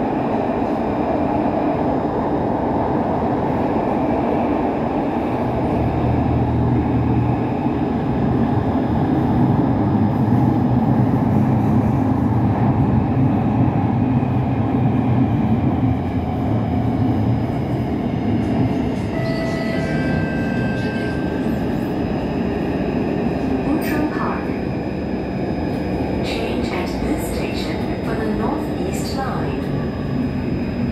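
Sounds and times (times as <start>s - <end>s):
train wheels rumbling on track: 0.0s - 30.9s.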